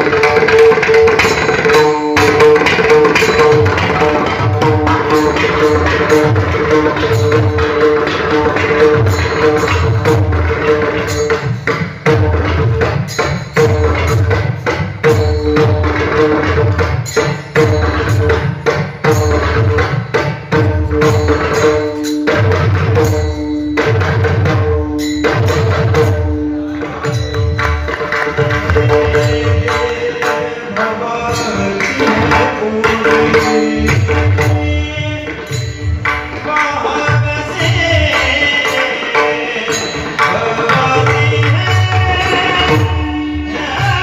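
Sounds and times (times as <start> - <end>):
hand drum fast rhythm: 0.0 - 44.0
jingling cymbals: 0.4 - 44.0.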